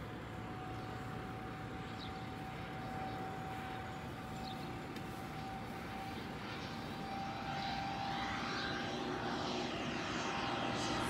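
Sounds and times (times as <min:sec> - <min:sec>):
distant small airplane droning: 0:00.0 - 0:11.0.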